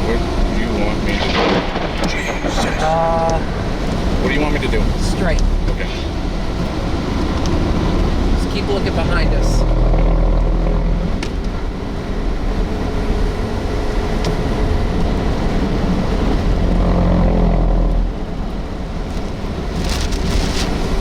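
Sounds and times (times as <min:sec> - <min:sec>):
engine and road rumble: 0:00.0 - 0:21.0
rain hitting a vehicle: 0:00.0 - 0:21.0
storm wind buffeting a vehicle: 0:00.0 - 0:21.0.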